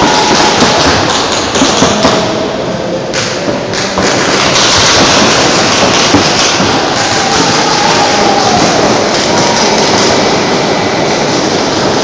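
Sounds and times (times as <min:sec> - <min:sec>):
noisy background din: 0:00.0 - 0:12.0.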